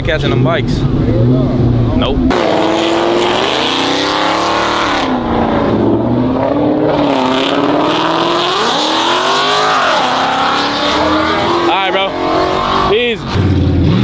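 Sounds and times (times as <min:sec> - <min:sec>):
vehicle engines revving: 0:00.0 - 0:14.0.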